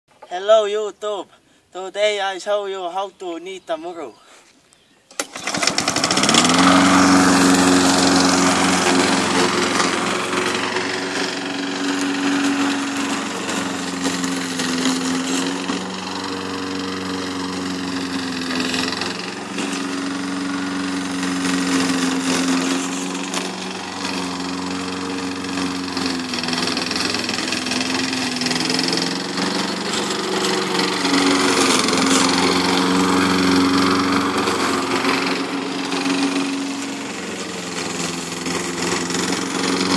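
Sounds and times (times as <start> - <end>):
lawn mower engine running: 5.1 - 39.9.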